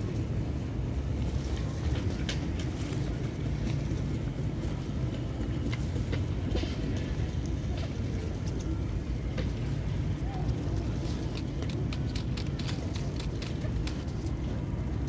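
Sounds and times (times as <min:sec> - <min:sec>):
pigeons pecking and fluttering: 0:00.0 - 0:15.0.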